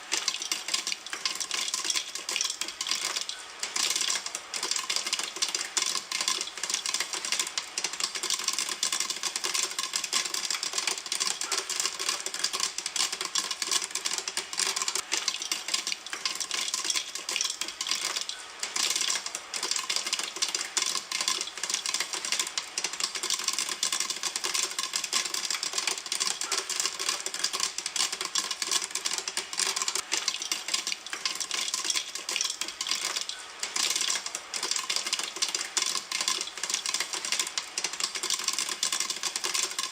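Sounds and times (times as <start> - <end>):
popcorn popping in a pan: 0.0 - 39.9.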